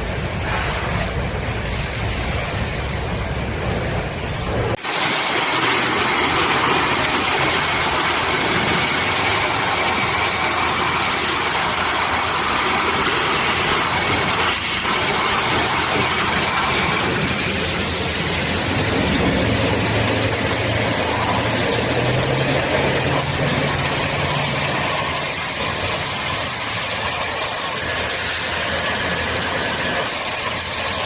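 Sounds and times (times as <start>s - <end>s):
pressure washer spraying hiss: 0.0s - 31.0s.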